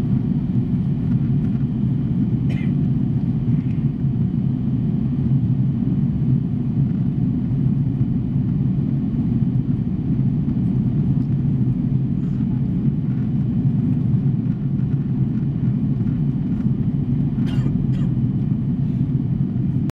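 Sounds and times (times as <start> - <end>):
jet engines roaring in cabin: 0.0 - 19.9.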